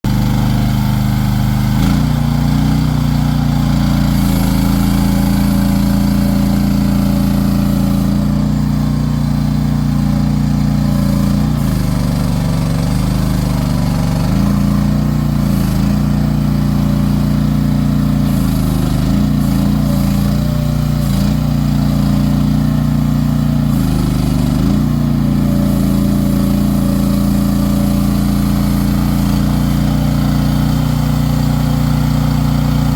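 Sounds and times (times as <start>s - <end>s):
excavator engine running: 0.0s - 32.9s.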